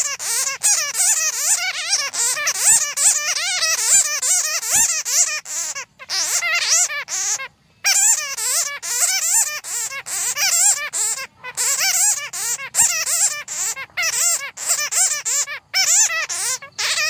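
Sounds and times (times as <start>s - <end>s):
bats squeaking and chattering: 0.0s - 17.0s.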